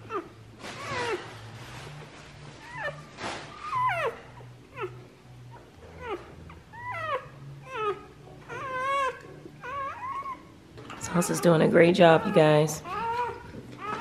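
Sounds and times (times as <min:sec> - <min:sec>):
puppies squealing: 0:02.6 - 0:14.0.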